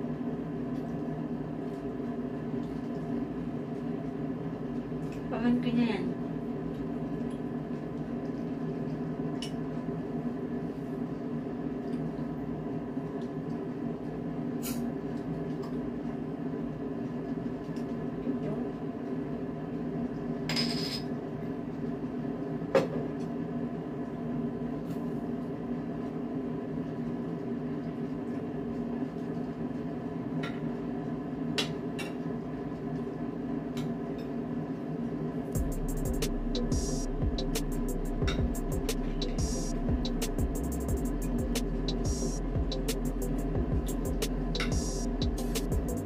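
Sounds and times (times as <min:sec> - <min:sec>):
low room hum: 0:00.0 - 0:46.0.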